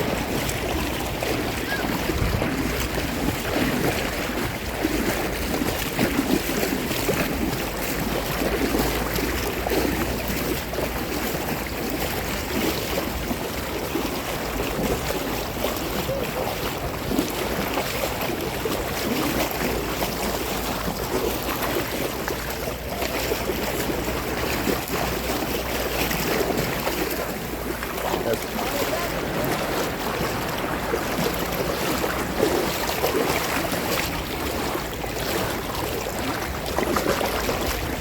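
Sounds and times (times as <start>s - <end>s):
seawater sloshing and lapping: 0.0s - 38.0s
wind buffeting microphone: 0.0s - 38.0s.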